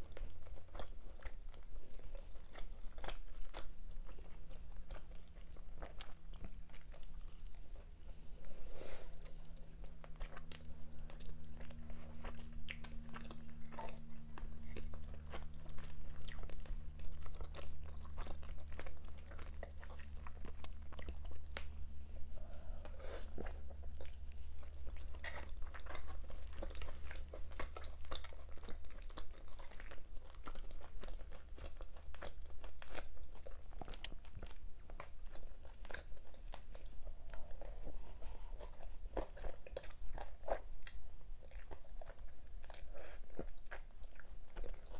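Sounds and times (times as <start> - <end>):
steady low hum: 0.0 - 44.9
wet chewing and biting: 0.0 - 44.9.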